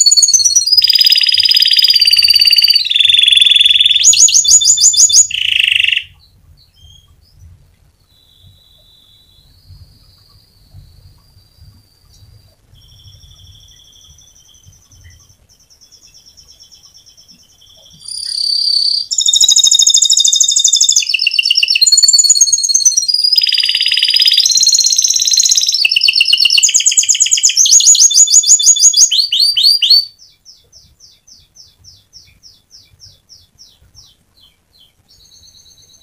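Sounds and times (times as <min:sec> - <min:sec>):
canary singing trills and chirps: 0:00.0 - 0:36.0.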